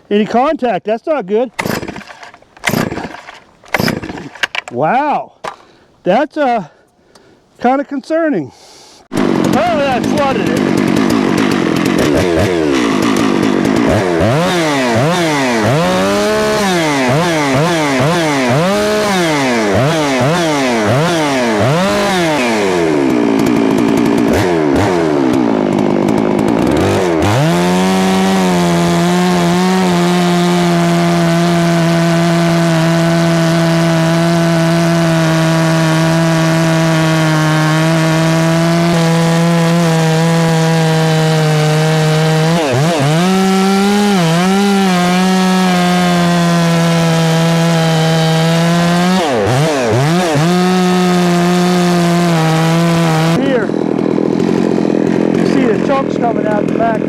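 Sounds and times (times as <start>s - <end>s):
chainsaw revving: 1.6s - 4.8s, 9.1s - 57.0s.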